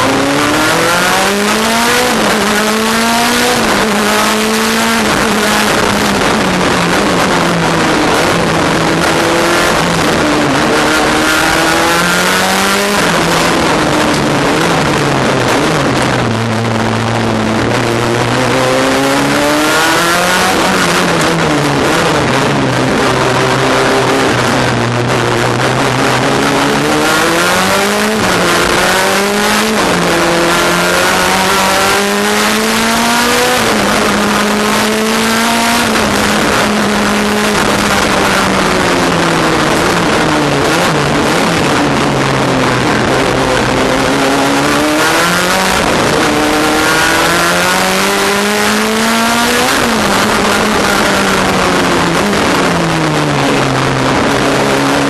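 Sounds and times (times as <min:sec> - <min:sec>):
race car engine shifting gears: 0:00.0 - 0:55.0
wind and road noise: 0:00.0 - 0:55.0.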